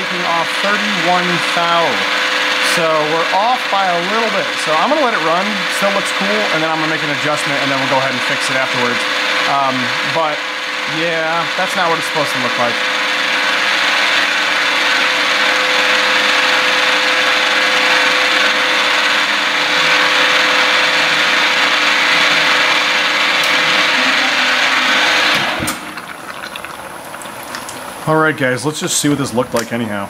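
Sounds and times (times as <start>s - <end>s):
milling machine cutting metal: 0.0s - 28.0s.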